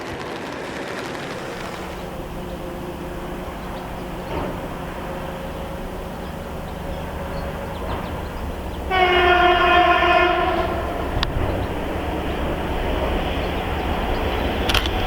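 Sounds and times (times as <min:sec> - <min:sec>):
train rumbling: 0:00.0 - 0:15.0
locomotive horn blast: 0:01.2 - 0:15.0.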